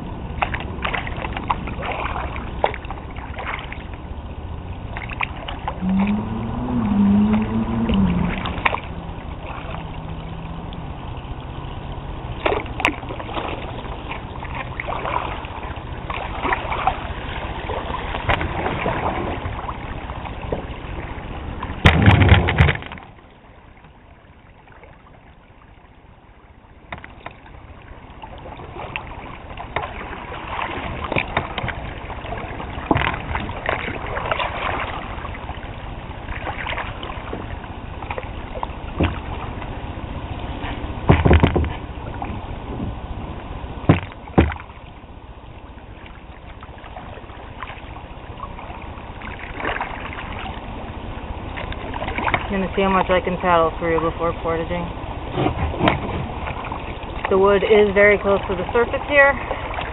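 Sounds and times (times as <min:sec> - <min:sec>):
paddle splashing in water: 0:00.0 - 0:59.9
water sloshing against hull: 0:00.0 - 0:59.9.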